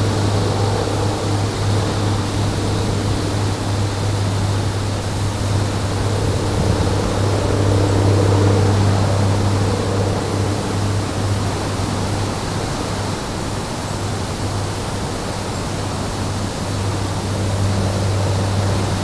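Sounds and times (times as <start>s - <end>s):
constant low hum: 0.0s - 19.0s
steady rushing noise: 0.0s - 19.0s.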